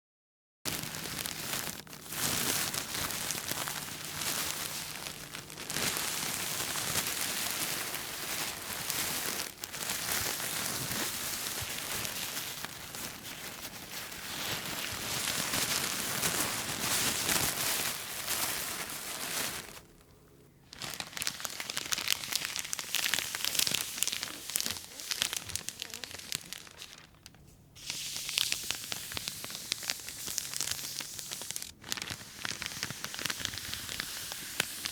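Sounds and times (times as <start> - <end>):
plastic sheeting crinkling: 0.7 - 34.9.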